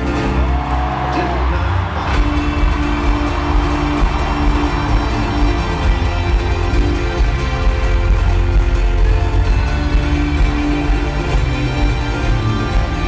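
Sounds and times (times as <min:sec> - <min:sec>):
acoustic guitar: 0:00.0 - 0:13.0
live band playing: 0:00.0 - 0:13.0
banjo: 0:02.0 - 0:13.0.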